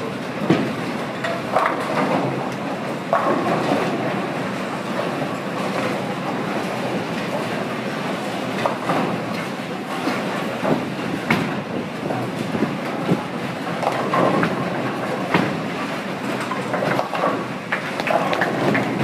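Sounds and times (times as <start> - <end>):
bowling balls rolling: 0.0 - 19.0
bowling pins clattering: 0.0 - 19.0.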